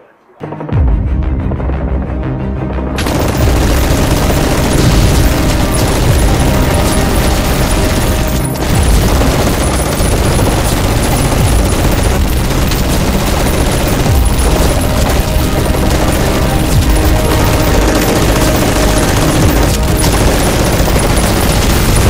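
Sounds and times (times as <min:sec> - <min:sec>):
continuous gunfire: 0:03.0 - 0:22.0.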